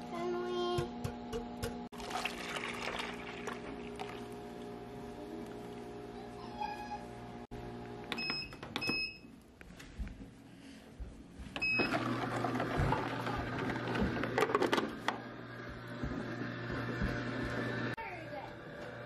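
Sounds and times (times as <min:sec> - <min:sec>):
ice cream maker humming: 0:00.0 - 0:08.1, 0:11.6 - 0:19.0.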